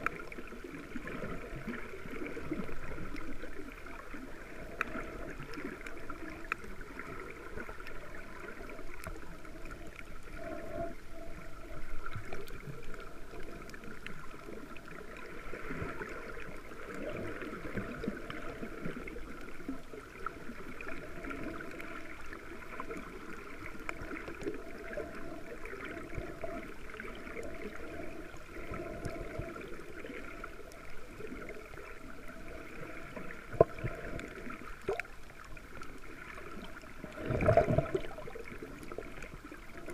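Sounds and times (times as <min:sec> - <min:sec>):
faint underwater clicks: 0:00.0 - 0:39.9
muffled underwater wash: 0:00.0 - 0:39.9.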